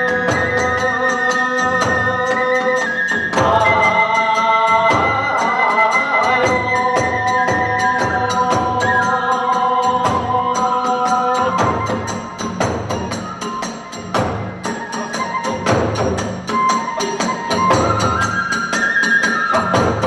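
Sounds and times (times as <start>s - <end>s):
bamboo flute sustained notes: 0.0s - 20.0s
drum beats: 0.0s - 20.0s.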